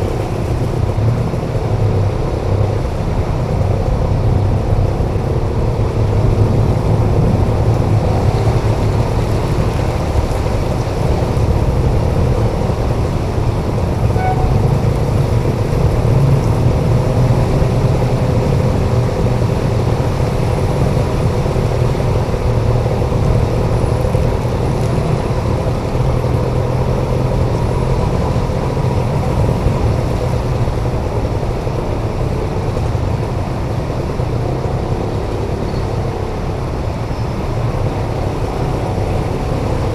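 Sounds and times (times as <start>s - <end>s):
surrounding traffic: 0.0s - 39.9s
tyres washing through water: 0.0s - 39.9s.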